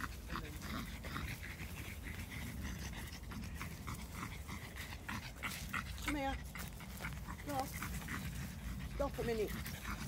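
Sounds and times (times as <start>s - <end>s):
dog panting: 0.0s - 10.0s.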